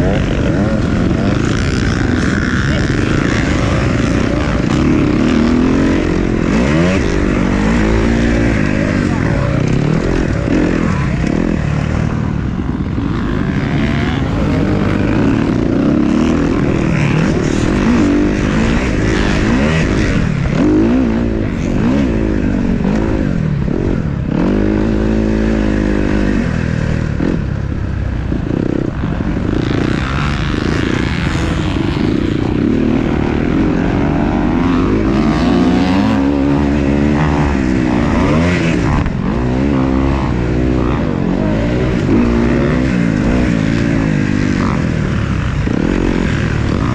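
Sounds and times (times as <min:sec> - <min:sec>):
dirt bike engines revving: 0:00.0 - 0:46.9.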